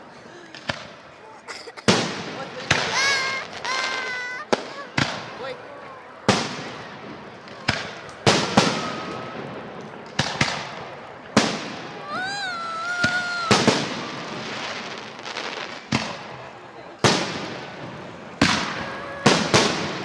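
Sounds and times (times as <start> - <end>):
fireworks bursting with sharp bangs: 0.5 - 1.2, 1.8 - 20.0.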